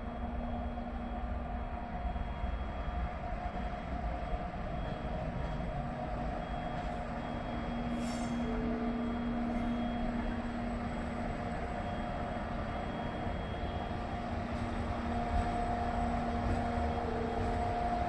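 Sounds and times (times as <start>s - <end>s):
locomotive rumbling and humming: 0.0s - 18.0s.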